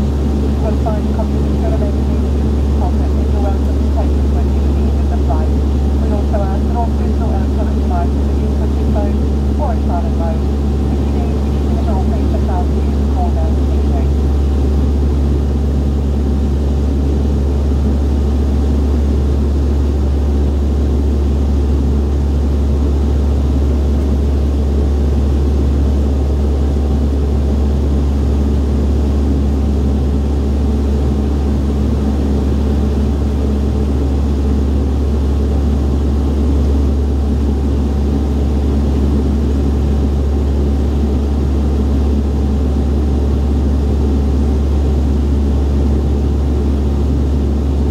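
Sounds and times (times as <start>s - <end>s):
turboprop engines droning in cabin: 0.0s - 47.9s.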